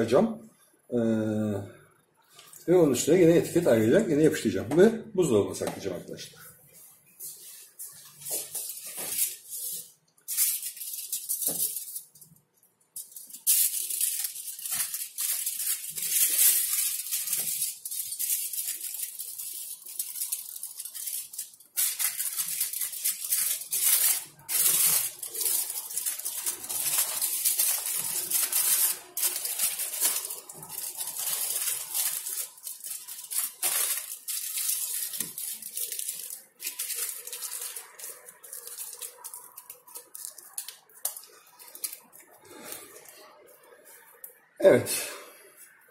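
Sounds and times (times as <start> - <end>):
aluminium foil crinkling: 7.2 - 44.4.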